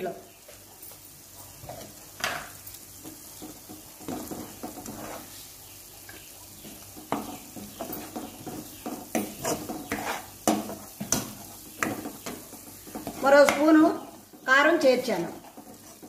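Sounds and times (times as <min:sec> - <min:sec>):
oil sizzling: 0:00.0 - 0:16.0
spatula scraping a pan: 0:01.6 - 0:16.0.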